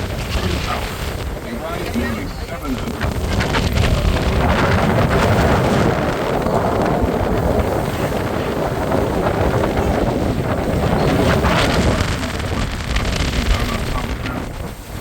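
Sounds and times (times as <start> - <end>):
low boat rumble: 0.0 - 15.0
wind buffeting microphone: 0.0 - 15.0.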